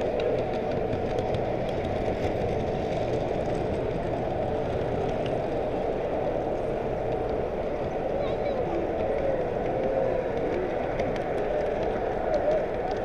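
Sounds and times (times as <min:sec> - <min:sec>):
model train wheels rolling: 0:00.0 - 0:13.0.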